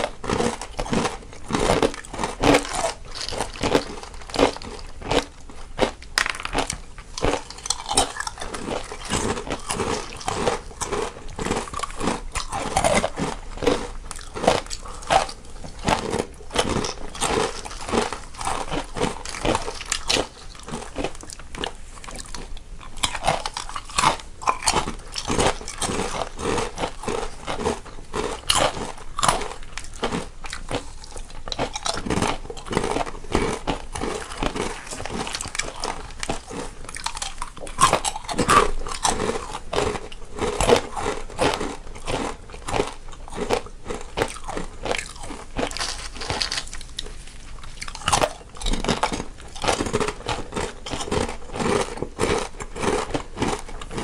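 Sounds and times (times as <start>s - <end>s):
people crunching snacks: 0.0s - 54.0s.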